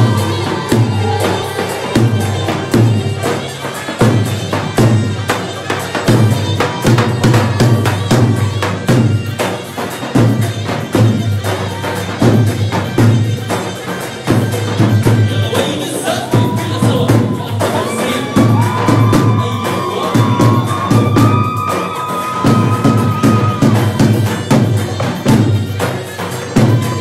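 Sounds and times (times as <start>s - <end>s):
large drums beating heavy rhythm: 0.0s - 27.0s.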